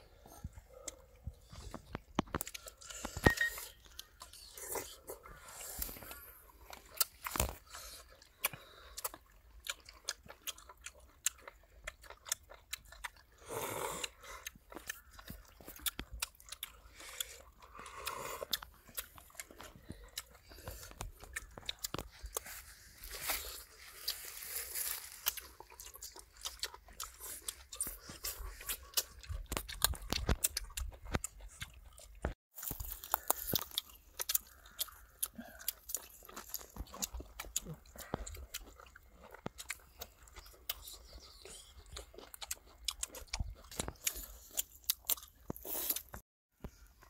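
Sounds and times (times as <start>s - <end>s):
people chewing and crunching food: 0.0s - 47.0s.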